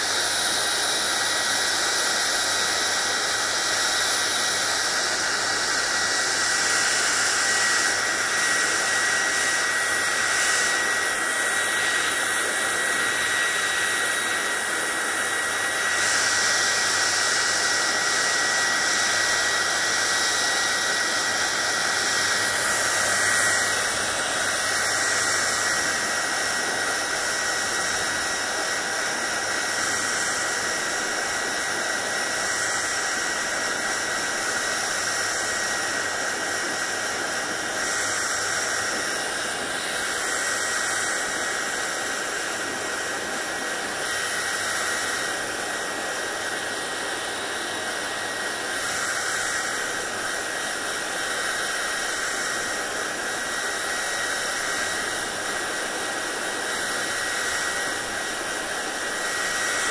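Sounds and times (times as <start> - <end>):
hair dryer blowing: 0.0 - 59.9
hair dryer thin whine: 0.0 - 59.9.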